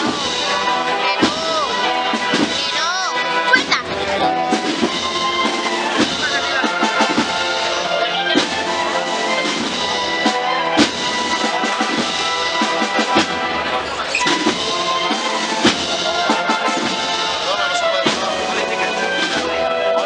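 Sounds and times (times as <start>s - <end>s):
brass and wind instruments: 0.0s - 20.0s
snare and bass drums: 0.0s - 20.0s.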